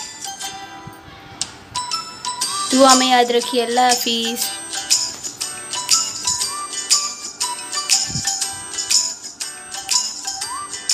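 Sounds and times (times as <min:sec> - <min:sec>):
background music with jingling beat: 0:00.0 - 0:10.9.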